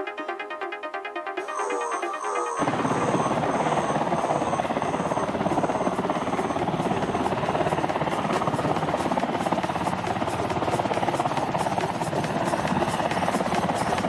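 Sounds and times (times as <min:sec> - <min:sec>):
helicopter rotor chopping: 0:01.4 - 0:14.0.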